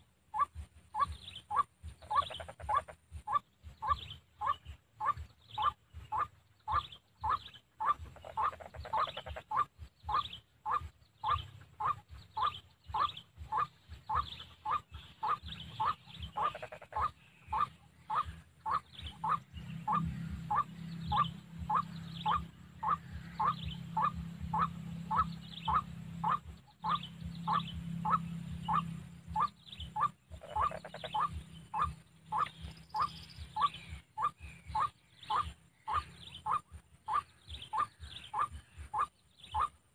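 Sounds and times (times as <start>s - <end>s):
bird calling harsh notes: 0.1s - 39.9s.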